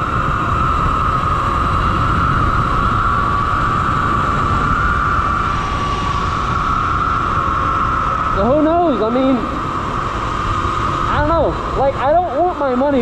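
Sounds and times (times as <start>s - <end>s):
high-pitched whine: 0.0s - 13.0s
wind rushing over microphone: 0.0s - 13.0s.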